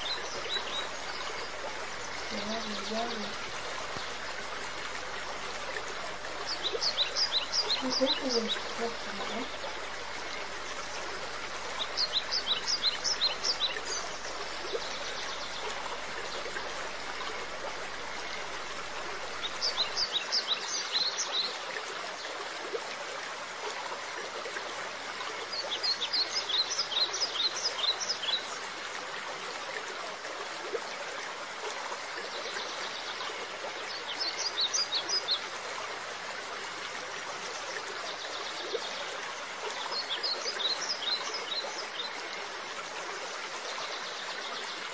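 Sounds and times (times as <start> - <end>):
rushing trickling water: 0.0 - 44.9.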